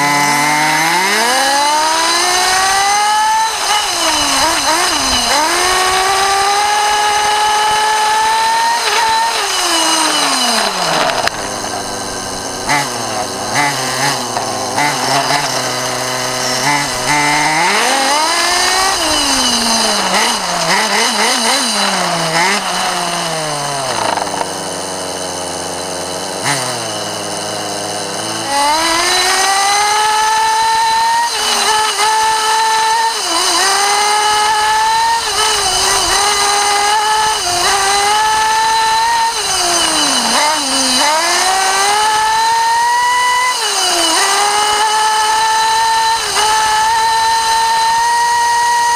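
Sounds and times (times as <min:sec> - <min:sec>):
small two-stroke engine revving: 0:00.0 - 0:48.9.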